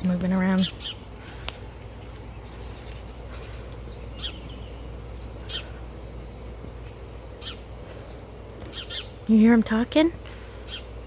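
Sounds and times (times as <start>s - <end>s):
bird chirping: 0.0s - 11.0s
low outdoor rumble: 0.0s - 11.0s.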